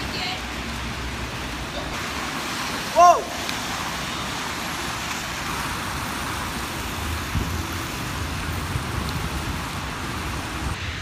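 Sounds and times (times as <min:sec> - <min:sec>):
tyres hissing on wet pavement: 0:00.0 - 0:11.0.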